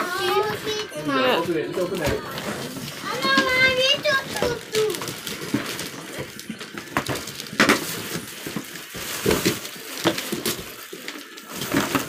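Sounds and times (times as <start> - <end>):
wrapping paper crackling: 0.0 - 12.0
paper ripping: 1.8 - 12.0.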